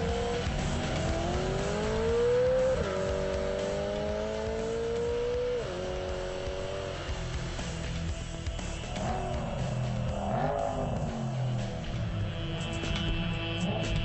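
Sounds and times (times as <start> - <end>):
car engine accelerating through gears: 0.0 - 12.6.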